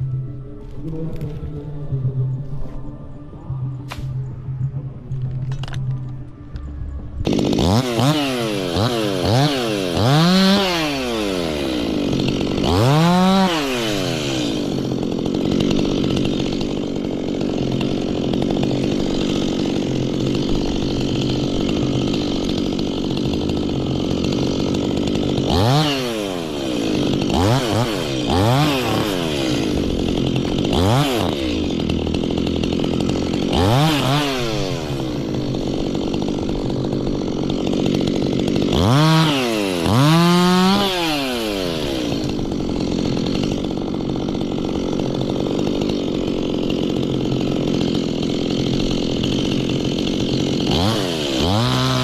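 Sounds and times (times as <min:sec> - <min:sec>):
chainsaw revving: 0:07.2 - 0:52.0.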